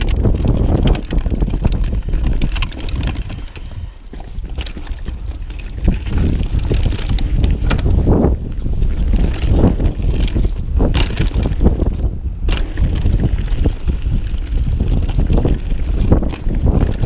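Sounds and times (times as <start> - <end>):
bike chain and frame rattling: 0.0 - 17.0
bike tyres rumbling over dirt: 0.0 - 17.0
wind buffeting microphone: 0.0 - 17.0.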